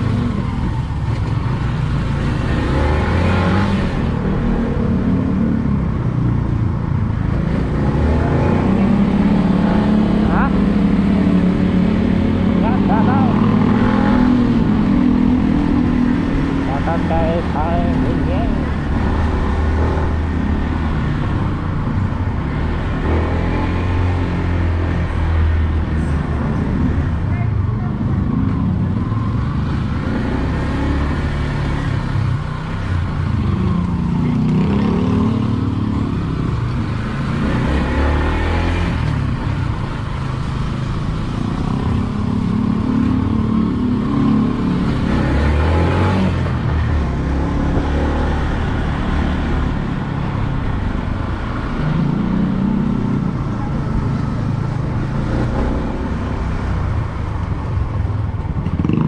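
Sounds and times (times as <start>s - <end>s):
road and wind noise: 0.0s - 59.0s
motorcycle engine revving: 7.1s - 25.8s, 28.2s - 59.0s.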